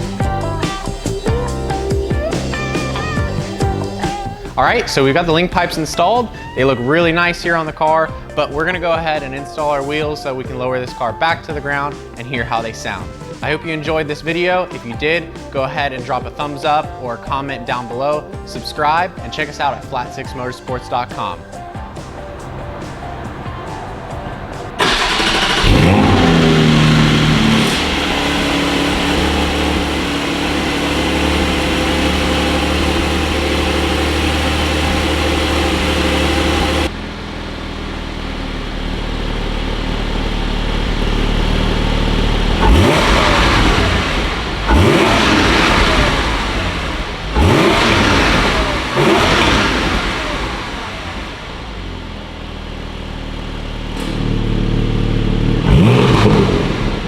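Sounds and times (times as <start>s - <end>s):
car engine revving: 0.0s - 57.0s
car engine starting and idling: 0.0s - 57.0s.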